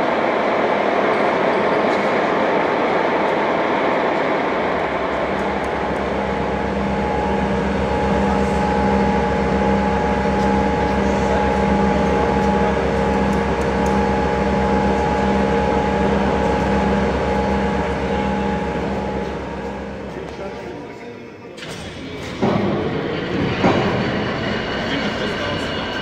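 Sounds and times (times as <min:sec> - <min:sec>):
electric machinery humming: 0:00.0 - 0:20.9, 0:21.9 - 0:26.0.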